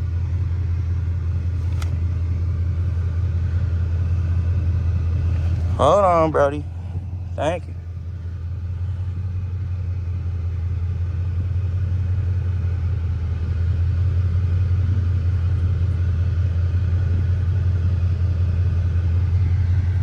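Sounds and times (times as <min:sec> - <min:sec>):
car engine and exhaust rumbling: 0:00.0 - 0:20.0.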